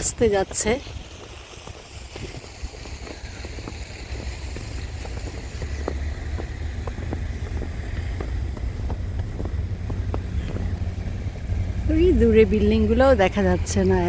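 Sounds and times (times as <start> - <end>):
wind noise on microphone: 0.0 - 12.8
car driving on snow: 0.0 - 14.0.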